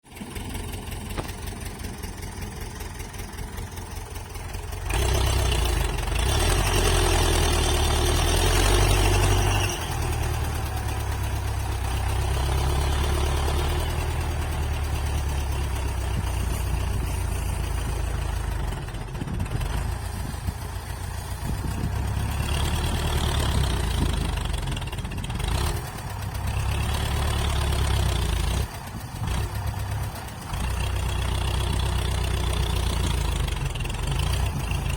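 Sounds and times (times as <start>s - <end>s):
tractor engine idling and revving: 0.0s - 34.9s.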